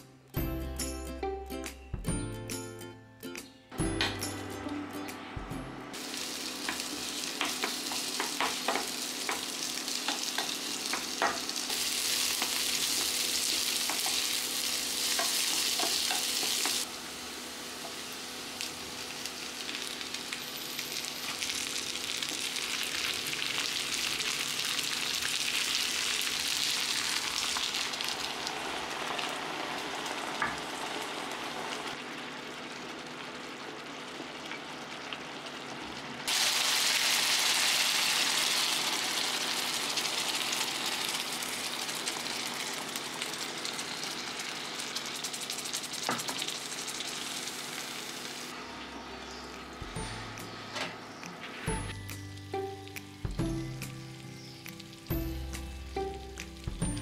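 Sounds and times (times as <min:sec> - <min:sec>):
onions and beef sizzling in pan: 0:05.9 - 0:48.6, 0:51.2 - 0:57.0.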